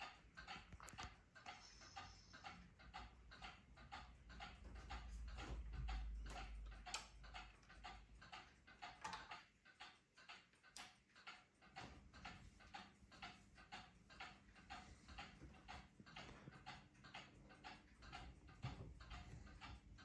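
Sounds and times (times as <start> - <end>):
ceiling fan running: 0.0 - 20.0
rhythmic bearing ticking: 0.0 - 20.0.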